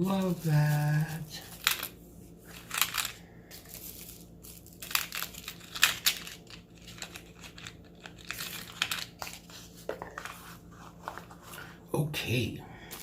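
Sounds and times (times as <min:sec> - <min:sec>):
packaging crinkling and rustling: 0:00.0 - 0:11.5.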